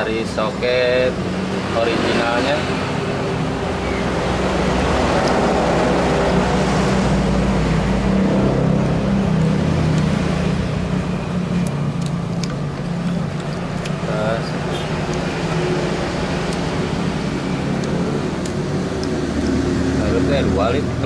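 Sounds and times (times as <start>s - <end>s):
broad rushing noise: 0.0s - 21.0s.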